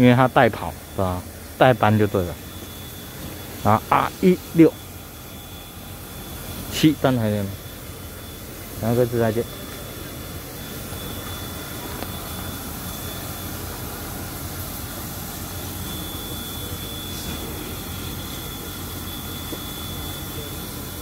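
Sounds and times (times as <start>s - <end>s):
faint high whine: 0.0s - 21.0s
steam locomotive venting steam: 0.0s - 21.0s.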